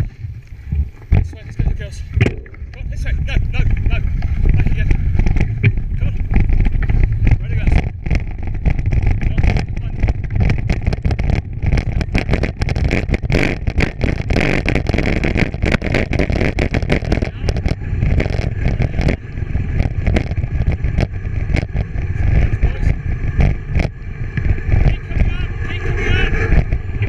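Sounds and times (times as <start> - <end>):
bicycle rumbling over rough ground: 0.0 - 27.0
bike rattles and knocks: 0.0 - 27.0.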